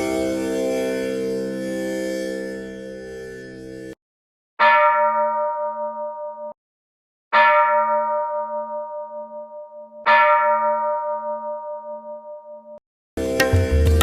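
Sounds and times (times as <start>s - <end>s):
temple bell ringing: 0.0s - 3.8s, 4.6s - 6.6s, 7.4s - 13.9s.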